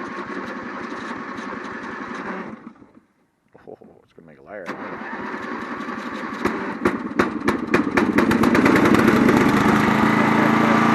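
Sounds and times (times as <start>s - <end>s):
lawnmower engine sputtering and running: 0.0s - 3.0s, 4.6s - 10.9s.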